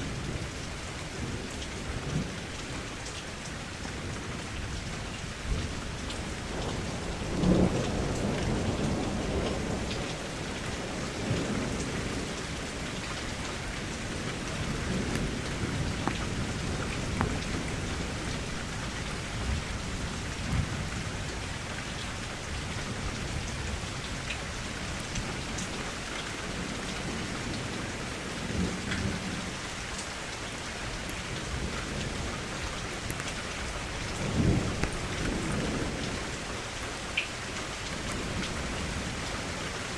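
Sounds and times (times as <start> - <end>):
rain against a window: 0.0 - 39.9
low thunder rumbles: 4.0 - 30.0, 30.6 - 36.8.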